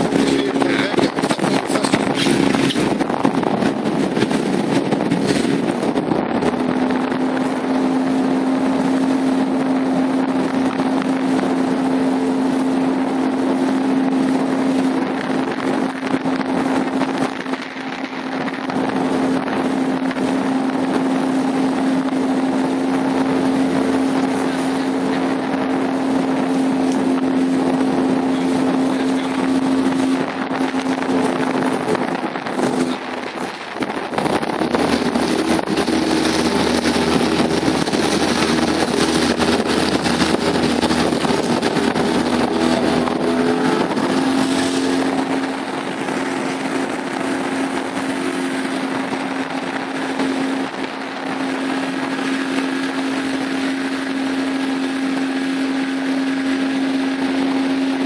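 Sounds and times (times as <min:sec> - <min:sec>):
motorboat engine running: 0:00.0 - 0:58.0
water rushing past hull: 0:00.0 - 0:58.0
wind buffeting microphone: 0:00.0 - 0:58.0.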